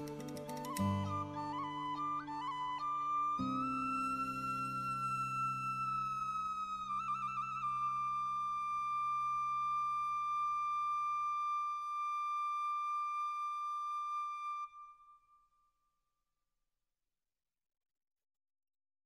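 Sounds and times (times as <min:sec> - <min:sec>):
held flute note: 0:00.0 - 0:15.6.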